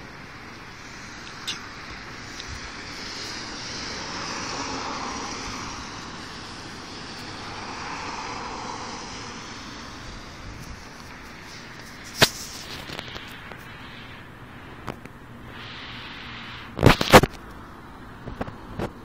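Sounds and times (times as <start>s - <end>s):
vehicle rushing by: 0.0s - 17.3s.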